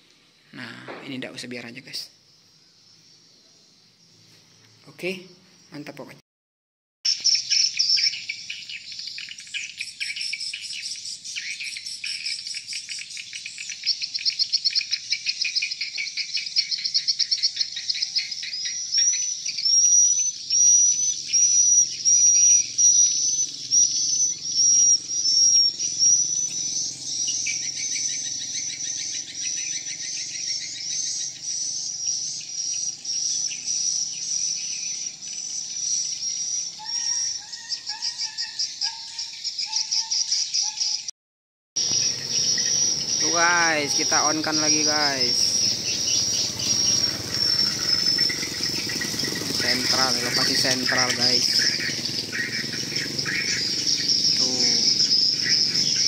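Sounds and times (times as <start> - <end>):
electronic bird chirping and trilling: 7.1 - 41.1, 41.8 - 56.0
repeated chirp: 7.1 - 41.1, 41.8 - 56.0.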